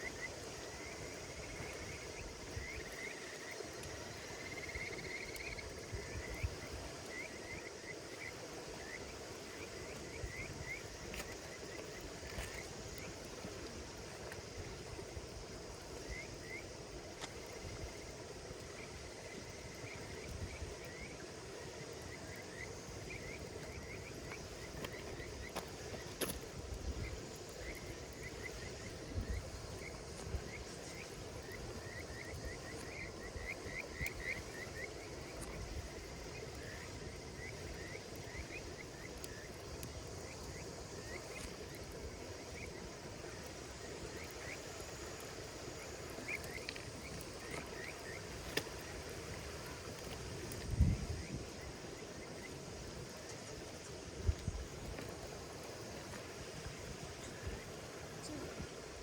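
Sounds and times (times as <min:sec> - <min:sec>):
campfire crackling: 0:00.0 - 0:59.0
insects chorus: 0:00.0 - 0:59.0.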